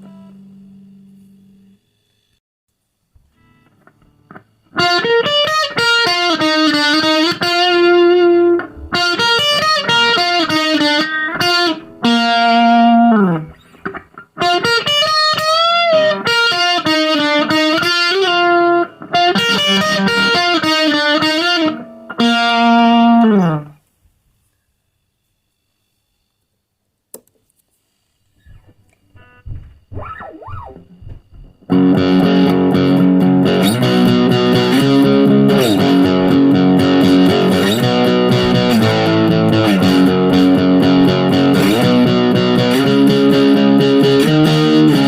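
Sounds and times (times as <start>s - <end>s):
distorted electric guitar riff: 3.2s - 23.8s, 28.4s - 45.0s.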